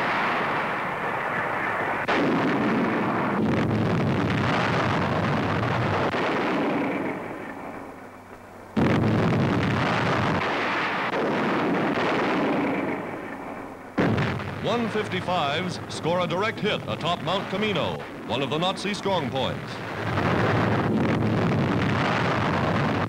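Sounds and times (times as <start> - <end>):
heavy artillery blasts: 0.0 - 23.0.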